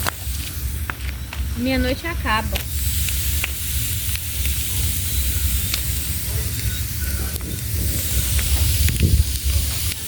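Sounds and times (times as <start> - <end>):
bonfire hissing and crackling: 0.0 - 10.0.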